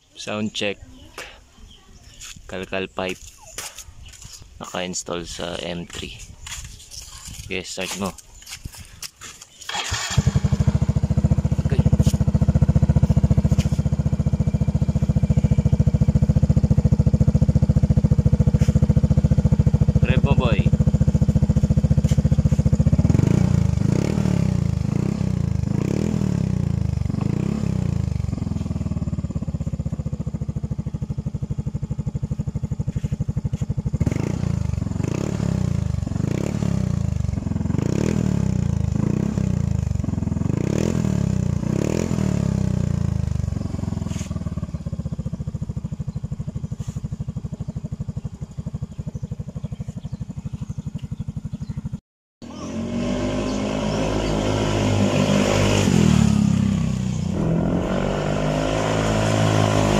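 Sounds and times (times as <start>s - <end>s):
scooter engine revving: 9.6s - 59.9s.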